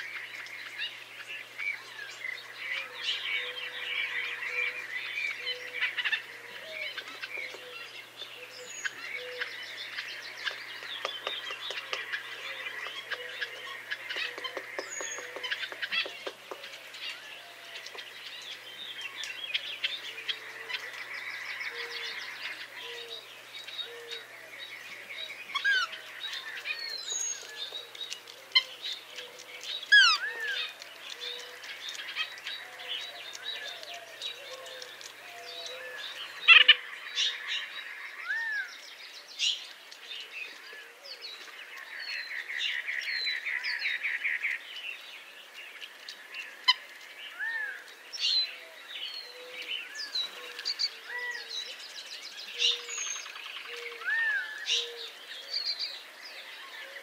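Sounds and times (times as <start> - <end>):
birds chirping and whistling: 0.0 - 57.0.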